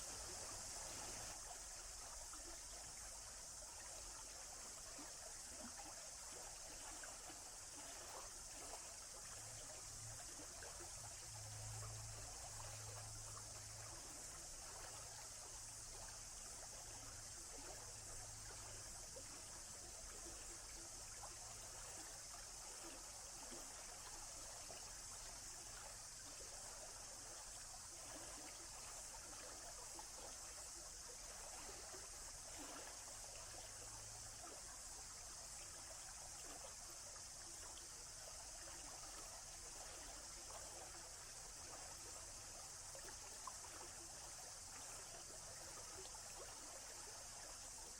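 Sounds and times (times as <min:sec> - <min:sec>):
stream trickling: 0:00.0 - 0:47.9.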